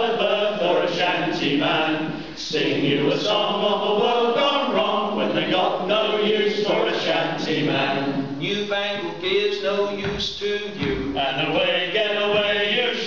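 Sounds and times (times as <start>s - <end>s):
men singing together: 0.0s - 13.0s.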